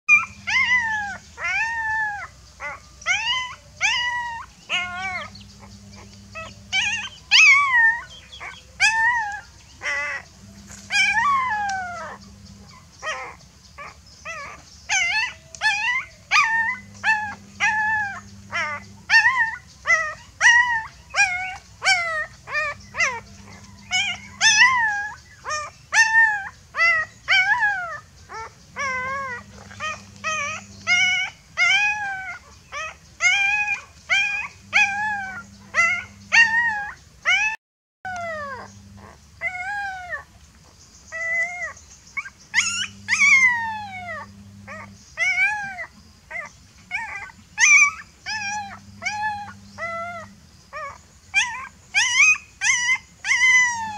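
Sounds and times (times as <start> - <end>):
puppy whining yelps: 0.1 - 40.3, 41.1 - 53.9.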